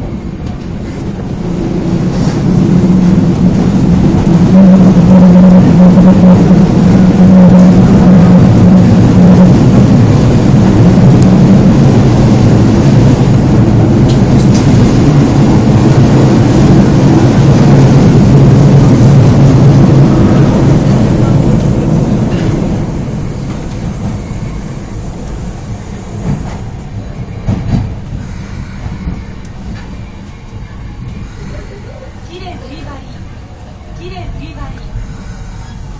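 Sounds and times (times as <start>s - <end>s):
subway train drive hum: 0.0s - 35.9s.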